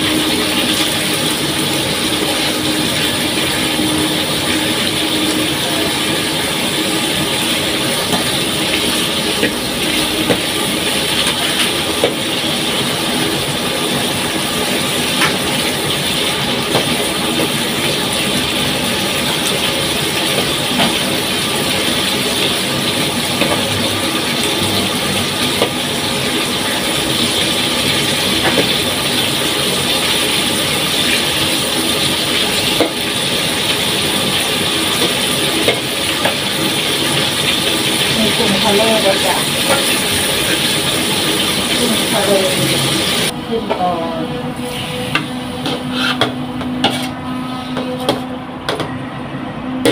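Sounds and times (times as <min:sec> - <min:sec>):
shrimp sizzling in oil: 0:00.0 - 0:43.3, 0:44.6 - 0:47.2.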